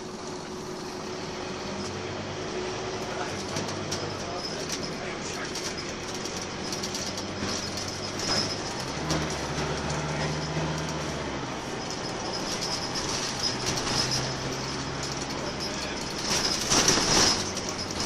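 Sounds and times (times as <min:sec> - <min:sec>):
bus body rattling: 0:00.0 - 0:18.0
bus diesel engine running: 0:00.0 - 0:18.0.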